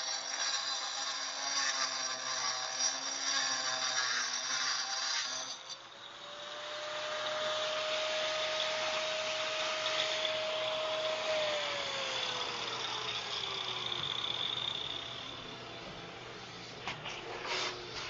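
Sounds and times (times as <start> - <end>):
angle grinder motor whine: 0.0 - 18.0.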